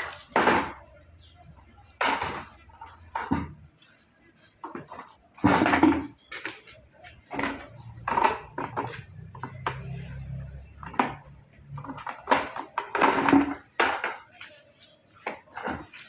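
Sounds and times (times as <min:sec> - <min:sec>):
clattering knocks and scrapes: 0:00.0 - 0:16.0.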